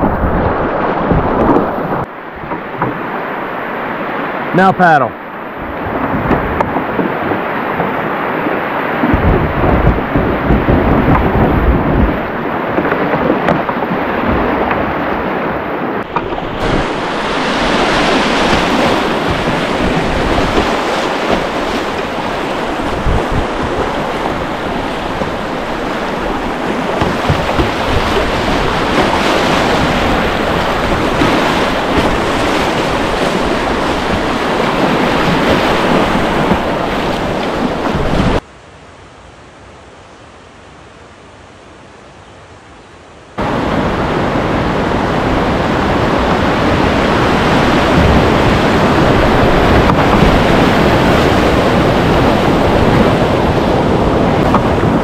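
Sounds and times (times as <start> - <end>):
wind buffeting microphone: 0.0 - 3.2, 5.4 - 38.4, 43.4 - 55.0
whitewater rushing: 0.0 - 38.4, 43.4 - 55.0.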